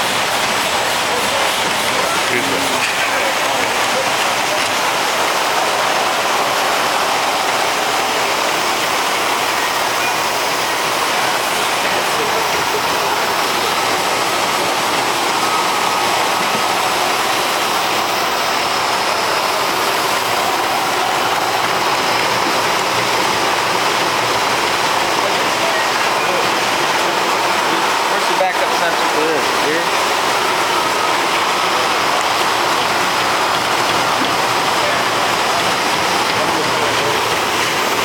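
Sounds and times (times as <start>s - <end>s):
packaging line mechanical noise: 0.0s - 38.0s.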